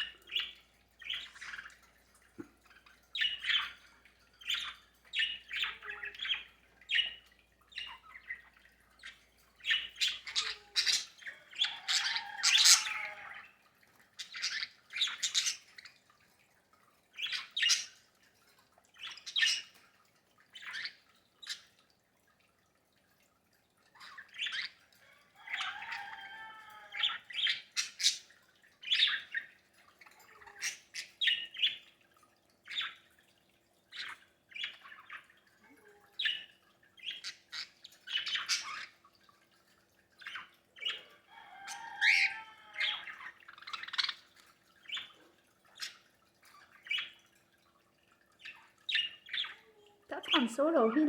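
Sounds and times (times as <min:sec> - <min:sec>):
birds chirping and squawking: 0:00.0 - 0:22.0, 0:23.7 - 0:51.0.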